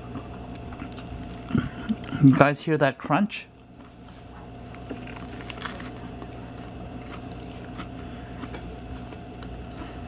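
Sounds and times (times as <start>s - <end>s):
person chewing crunchy food: 0.0s - 2.4s, 3.5s - 10.0s
steady low hum: 0.0s - 10.0s.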